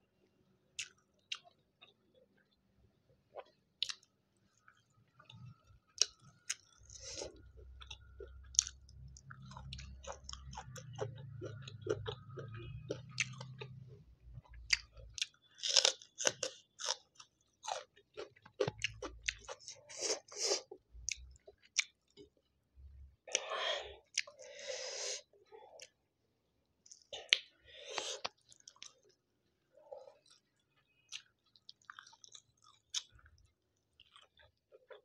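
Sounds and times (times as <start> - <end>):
chewing with crisp crunches: 0.7 - 2.6, 3.3 - 22.5, 23.2 - 24.5, 26.8 - 35.0.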